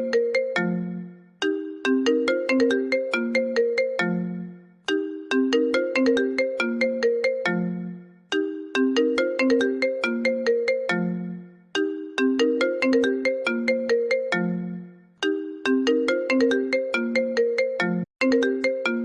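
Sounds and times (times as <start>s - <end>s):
phone ringtone melody: 0.0s - 19.0s.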